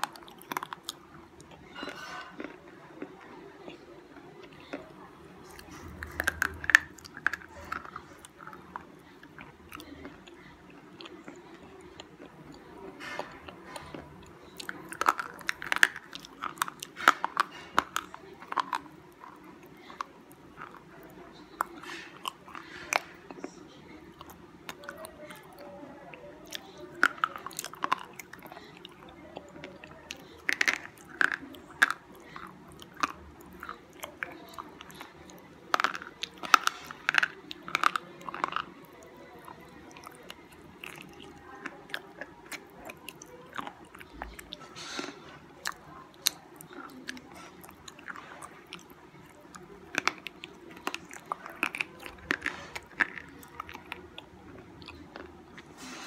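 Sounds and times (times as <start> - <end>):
faint chewing: 0.0 - 56.0.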